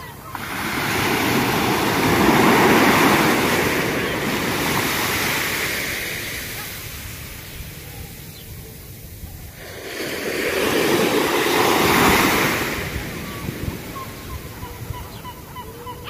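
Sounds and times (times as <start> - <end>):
waves washing up a beach: 0.0 - 15.5.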